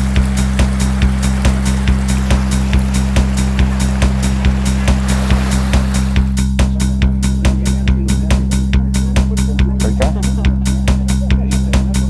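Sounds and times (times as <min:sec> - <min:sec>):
background music with bass: 0:00.0 - 0:12.0.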